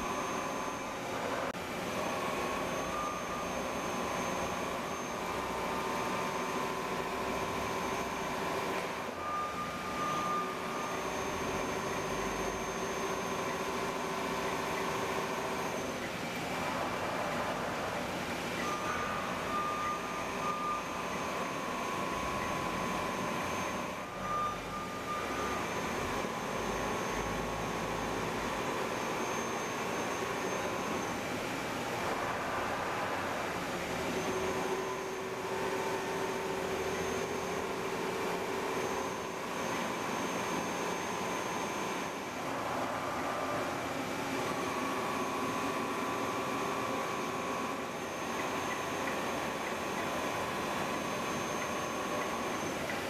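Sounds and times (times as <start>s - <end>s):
machinery humming: 0.0s - 53.0s
whining tones: 0.0s - 53.0s.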